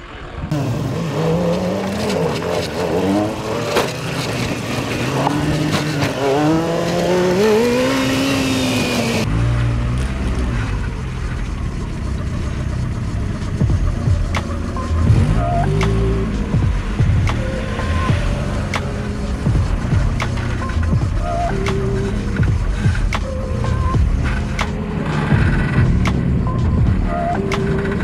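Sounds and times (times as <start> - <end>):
engine revving up and down: 0.0 - 28.0
low engine drone: 0.0 - 28.0.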